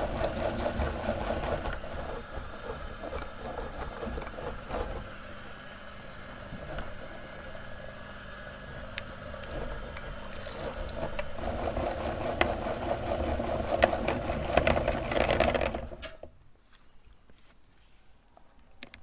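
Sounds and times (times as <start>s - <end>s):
meat grinder motor humming: 0.0s - 16.0s.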